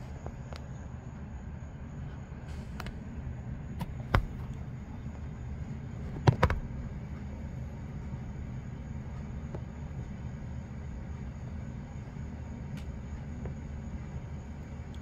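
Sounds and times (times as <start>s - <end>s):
fire truck engine idling: 0.0s - 15.0s.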